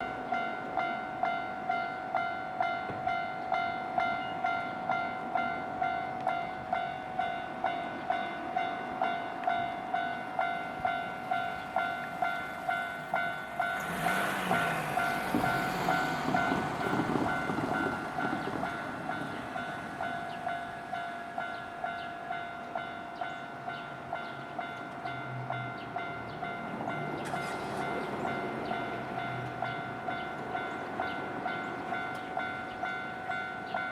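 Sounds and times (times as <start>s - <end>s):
train passing: 0.0s - 33.9s.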